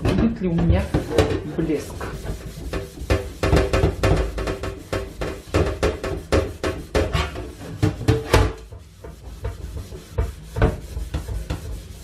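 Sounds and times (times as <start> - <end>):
sponge scrubbing steel pot: 0.0 - 12.0.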